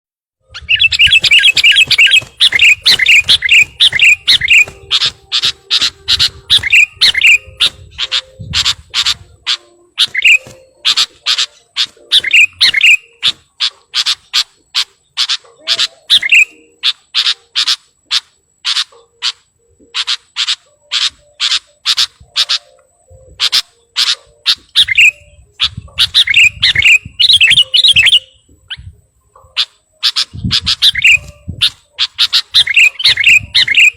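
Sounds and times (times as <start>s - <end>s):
bird chirping loudly: 0.4s - 33.9s
bird warbling: 0.5s - 33.9s.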